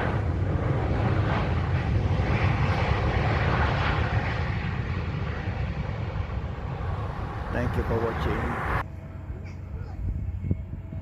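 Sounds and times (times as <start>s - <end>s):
jet engines roaring: 0.0s - 8.9s.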